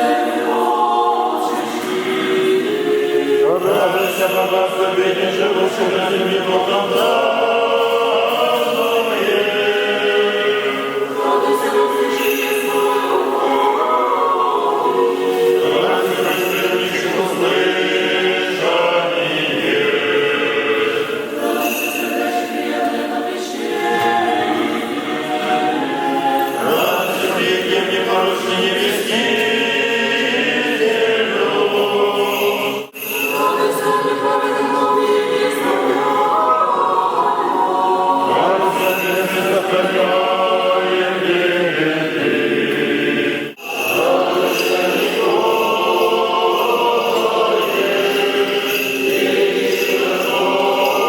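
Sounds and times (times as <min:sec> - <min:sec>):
church choir singing a cappella: 0:00.0 - 0:51.0.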